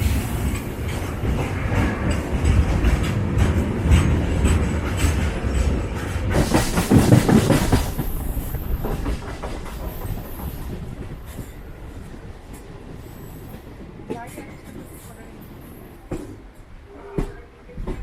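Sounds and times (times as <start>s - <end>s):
train running rumble: 0.0s - 18.0s
train wheels clattering over rail joints: 0.0s - 18.0s.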